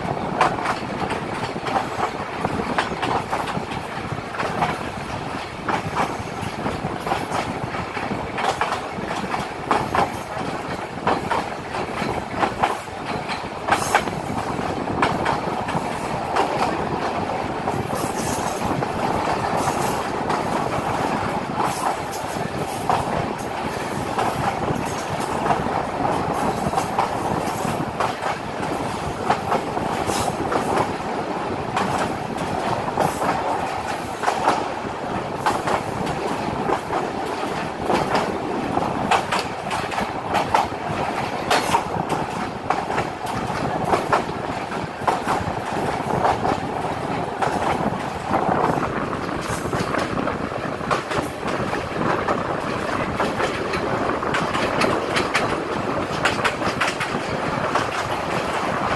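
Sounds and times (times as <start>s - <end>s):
train wheels rumbling: 0.0s - 58.9s
wheels clattering over rail joints: 0.0s - 58.9s.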